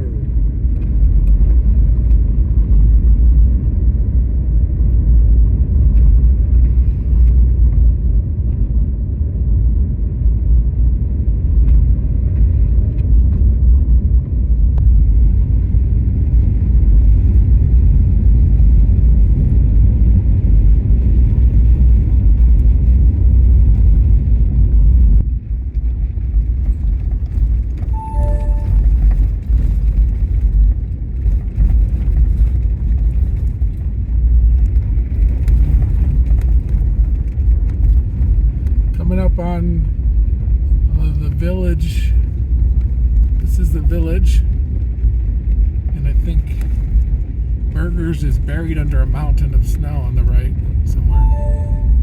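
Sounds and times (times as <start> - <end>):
car tyres and engine rumble: 0.0 - 52.0.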